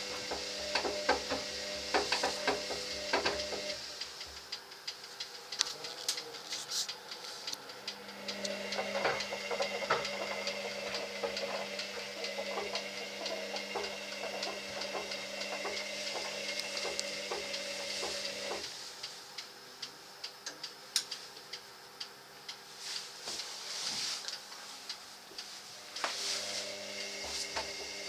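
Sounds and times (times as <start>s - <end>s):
dryer motor humming: 0.0s - 28.0s.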